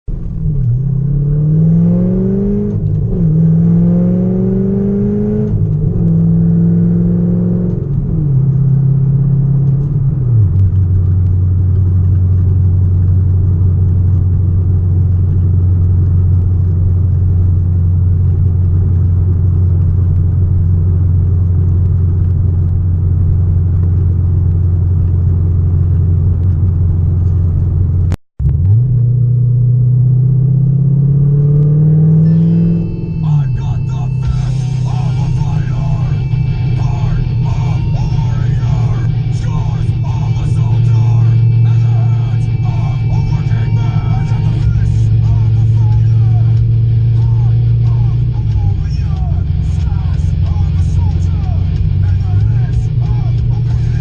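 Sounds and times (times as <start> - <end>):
car exhaust pulling hard: 0.1 - 54.0.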